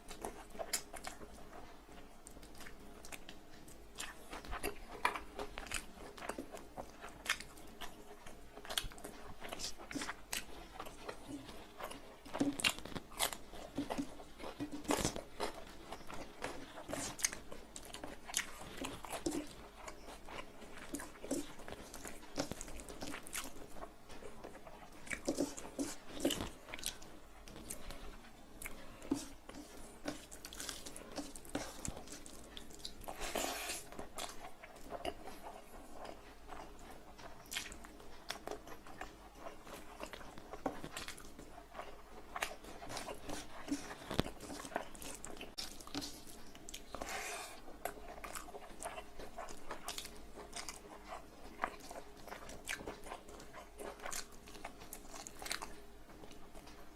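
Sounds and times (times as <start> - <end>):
chewing with wet mouth smacks: 0.0 - 56.9.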